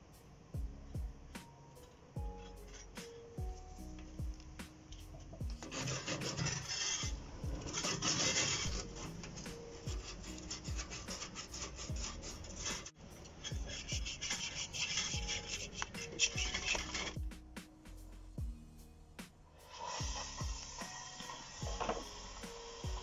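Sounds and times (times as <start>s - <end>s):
background music with steady beat: 0.0s - 23.0s
scraping copper tubing: 1.8s - 18.0s, 19.6s - 23.0s.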